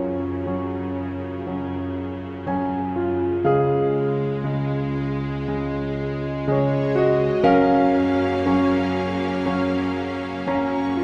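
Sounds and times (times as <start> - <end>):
slow gentle chords: 0.0 - 11.0.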